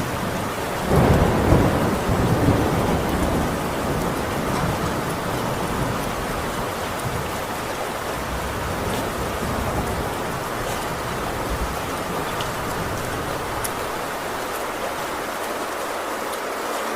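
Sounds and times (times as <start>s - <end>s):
heavy rain on a tin roof: 0.0s - 16.9s.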